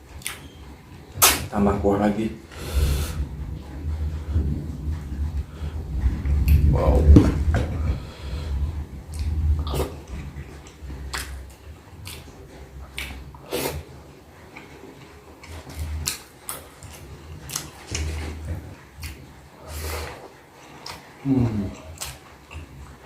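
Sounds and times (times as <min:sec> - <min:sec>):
low rumble: 0:00.0 - 0:20.3
chewing and mouth noises: 0:02.8 - 0:23.0.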